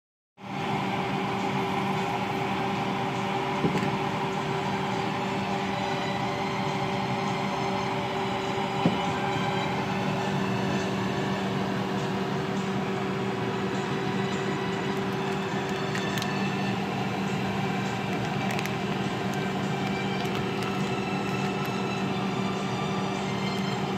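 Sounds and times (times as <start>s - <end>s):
mechanical hum and whir: 0.4s - 23.9s.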